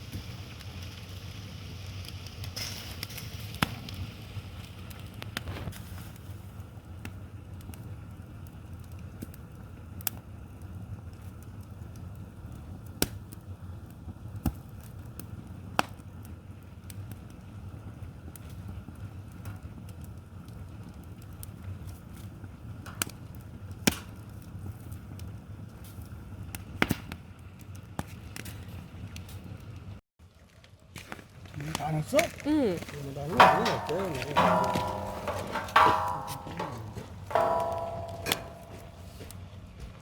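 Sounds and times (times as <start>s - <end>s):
pops from burning logs: 0.0s - 39.4s
wood fire crackling: 0.0s - 40.0s.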